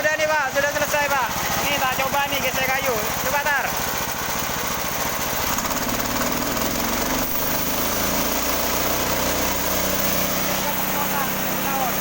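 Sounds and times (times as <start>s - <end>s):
small petrol engine running: 0.0s - 12.0s.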